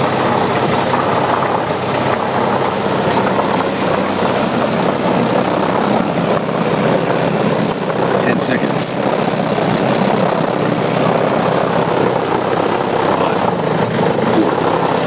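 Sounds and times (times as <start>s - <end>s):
loud bass drone with buzz: 0.0s - 15.0s.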